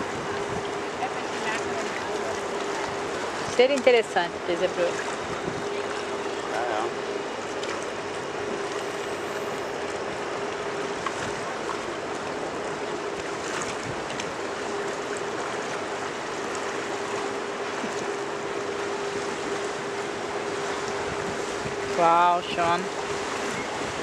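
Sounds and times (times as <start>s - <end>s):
boat engine humming: 0.0s - 24.0s
water washing: 0.0s - 24.0s.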